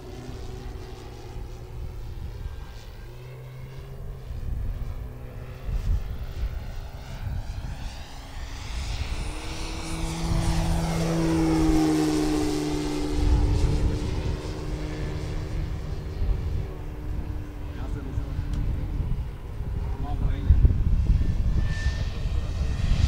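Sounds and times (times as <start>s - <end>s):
model plane propeller hum: 0.0s - 23.0s.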